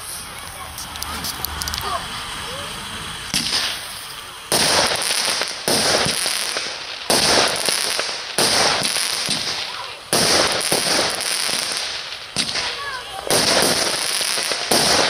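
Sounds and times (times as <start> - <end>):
firework bangs: 0.0 - 15.0.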